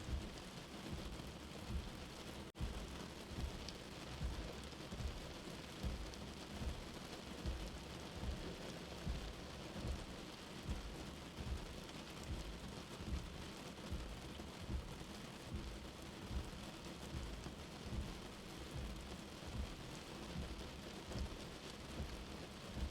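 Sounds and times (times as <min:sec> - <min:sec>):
rain heard from shelter: 0:00.0 - 0:22.9
soft low heartbeat: 0:00.0 - 0:22.9.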